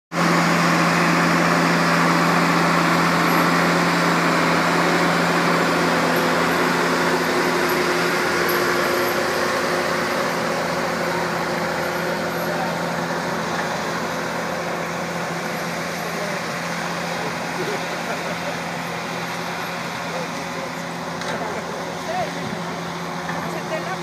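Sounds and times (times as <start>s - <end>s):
snowplough diesel engine: 0.1s - 24.0s.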